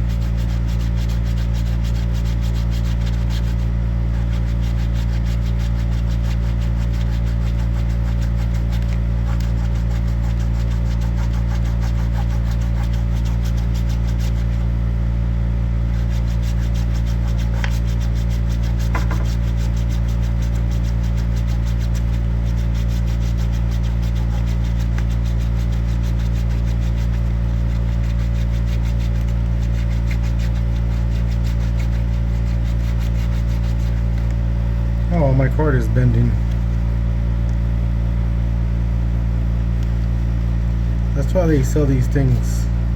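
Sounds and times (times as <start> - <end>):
low mechanical hum: 0.0 - 42.9.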